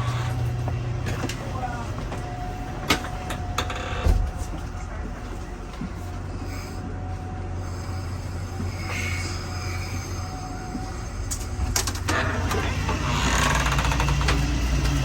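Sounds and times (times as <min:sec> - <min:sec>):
low hum in rail car: 0:00.0 - 0:15.0.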